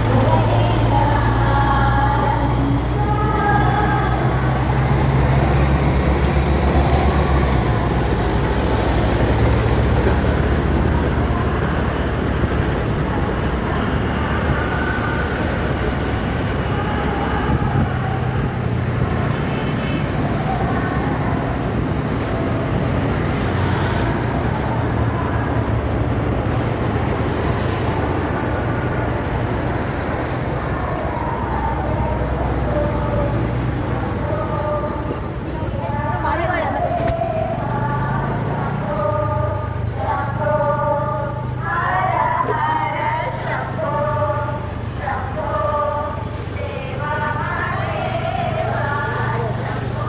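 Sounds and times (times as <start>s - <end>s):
heavy engine rumble: 0.0s - 50.0s
street traffic: 0.0s - 50.0s.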